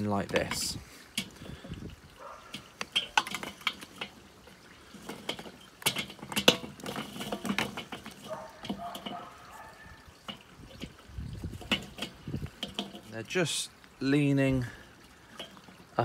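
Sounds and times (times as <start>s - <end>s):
charcoal briquettes clacking on metal grate: 0.0s - 16.0s.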